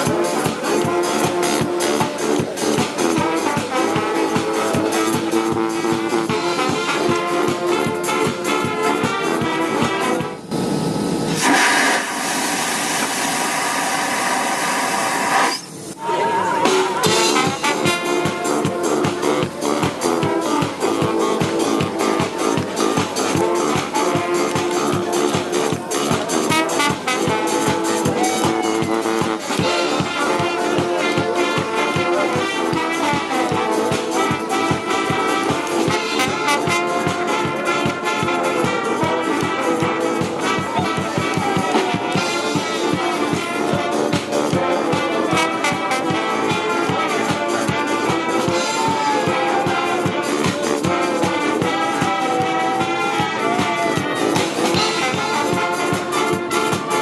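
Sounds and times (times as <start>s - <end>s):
brass music with steady beat: 0.0s - 57.0s.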